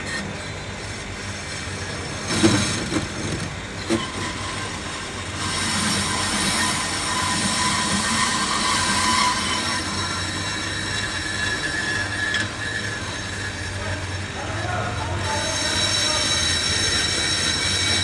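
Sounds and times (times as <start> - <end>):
lathe tool scraping metal disc: 0.1 - 18.0.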